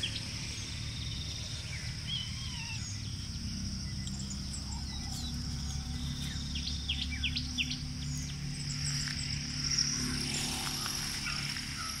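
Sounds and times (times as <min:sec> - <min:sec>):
bird chirping calls: 0:00.0 - 0:12.0
high-pitched insect drone: 0:00.0 - 0:12.0
low rumble: 0:00.0 - 0:12.0.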